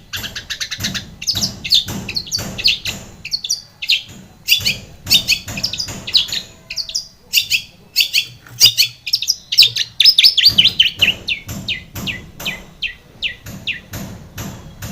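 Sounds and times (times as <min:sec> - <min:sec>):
shrike singing harsh chirps: 0:00.0 - 0:14.0.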